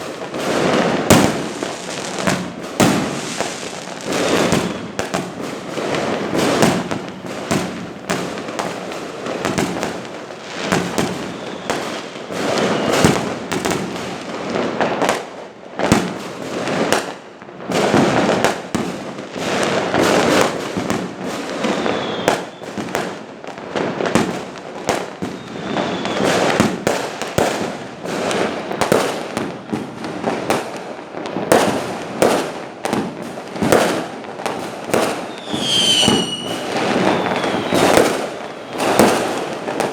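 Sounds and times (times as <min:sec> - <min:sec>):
fireworks whistles: 0:00.0 - 0:15.1, 0:19.4 - 0:23.2, 0:23.8 - 0:30.8, 0:31.5 - 0:39.9
fireworks bangs and crackles: 0:00.0 - 0:39.9.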